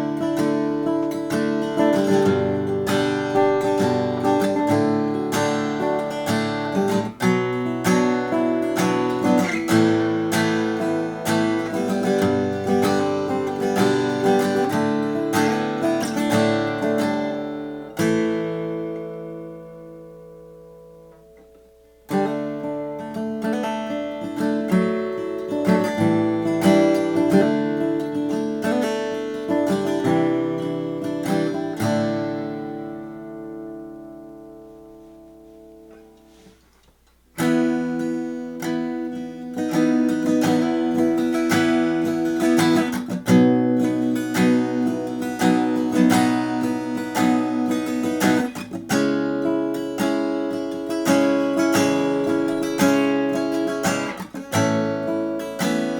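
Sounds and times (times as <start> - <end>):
acoustic guitar picked and strummed: 0.0 - 55.9.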